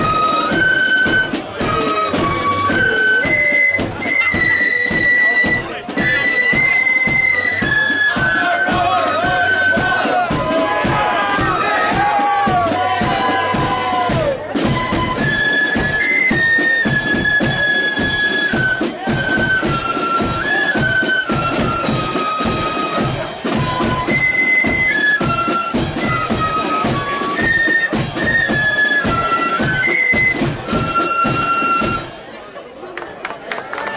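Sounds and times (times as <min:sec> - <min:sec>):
flute melody: 0:00.0 - 0:32.3
bass and snare drums: 0:00.0 - 0:32.4.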